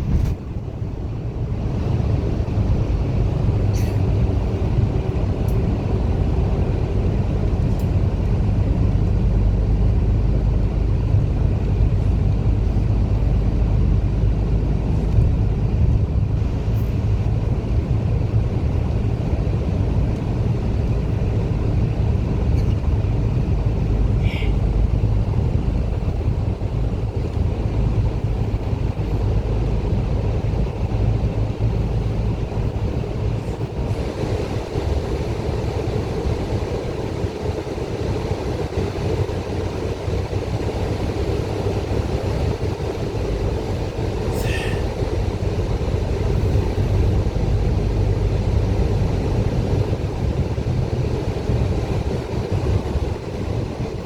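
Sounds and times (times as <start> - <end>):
bus engine drone: 0.0 - 54.0
road and tyre rumble: 0.0 - 54.0.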